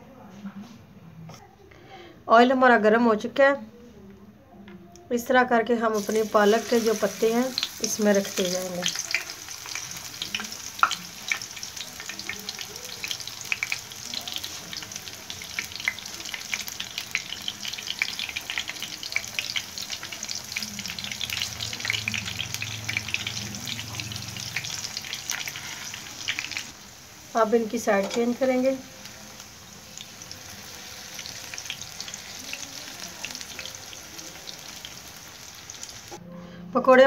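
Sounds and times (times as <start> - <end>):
battered leaves deep-frying in oil: 5.8 - 36.2.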